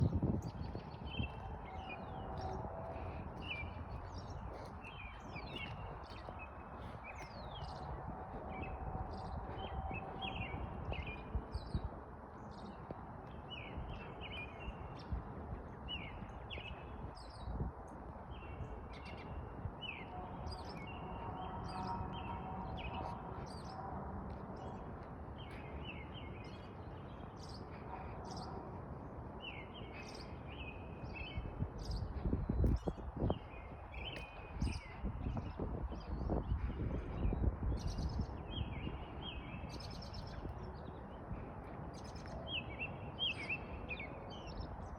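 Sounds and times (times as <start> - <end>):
small songbirds chirping: 0.0 - 44.9.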